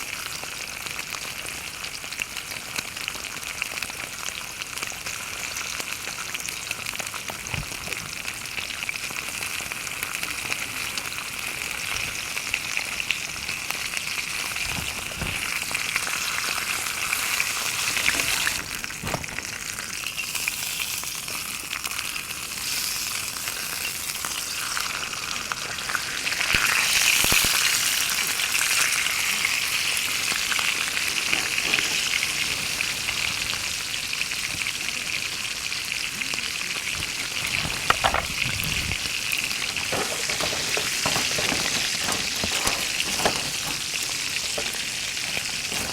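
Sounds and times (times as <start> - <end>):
steak sizzling in a pan: 0.0 - 45.9.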